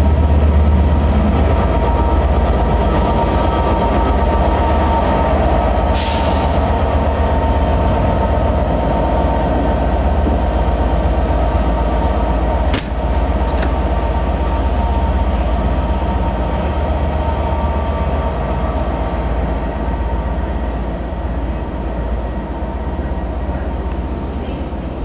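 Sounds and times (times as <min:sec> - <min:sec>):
train engine and wheel rumble: 0:00.0 - 0:25.0.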